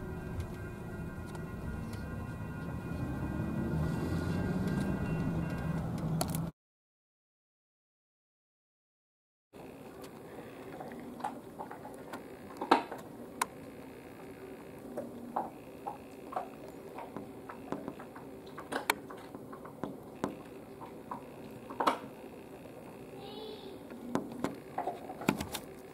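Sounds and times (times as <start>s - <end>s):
steady low hum: 0.0s - 6.2s, 9.6s - 25.9s.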